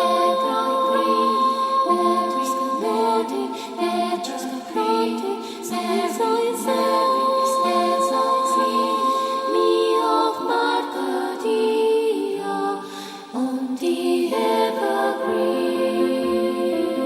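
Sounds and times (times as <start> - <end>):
ambient music with long-held tones: 0.0 - 17.0.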